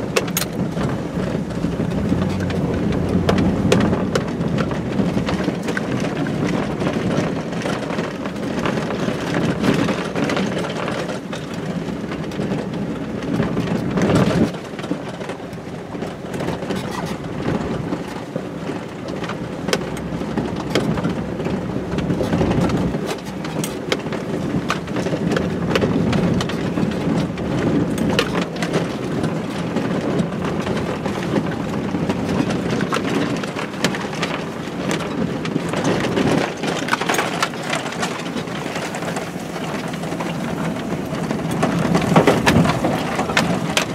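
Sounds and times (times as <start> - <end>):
knocks and rattles: 0.0 - 15.4, 18.8 - 43.9
truck rumbling over rough ground: 0.0 - 43.9.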